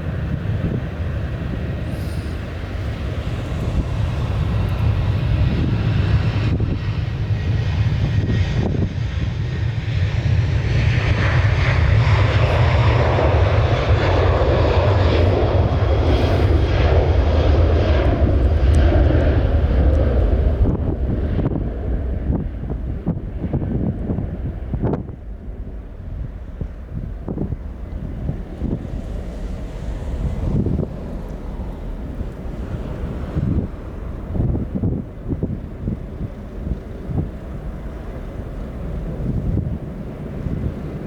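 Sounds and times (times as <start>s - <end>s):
jet engines roaring past: 0.0s - 41.0s.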